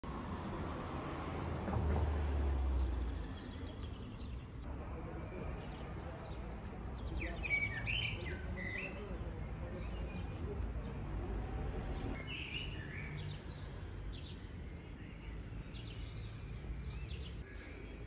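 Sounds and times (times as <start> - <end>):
outdoor street noise: 0.0 - 18.0
small birds chirping: 2.7 - 11.2, 11.8 - 18.0.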